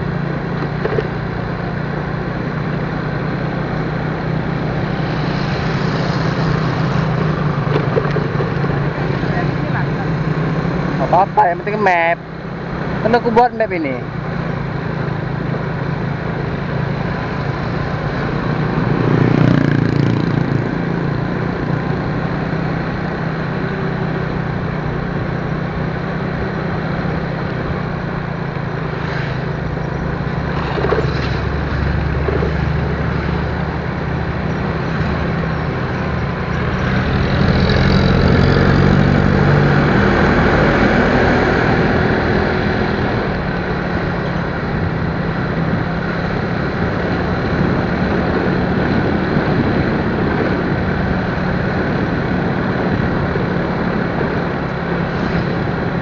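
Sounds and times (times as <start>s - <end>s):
road and wind noise: 0.0s - 56.0s
vehicle engine hum: 0.0s - 56.0s.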